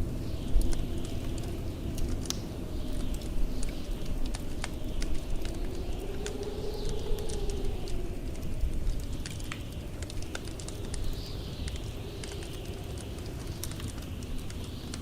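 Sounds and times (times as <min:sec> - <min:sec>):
blizzard wind howling: 0:00.0 - 0:15.0
wood fire crackling: 0:00.0 - 0:15.0.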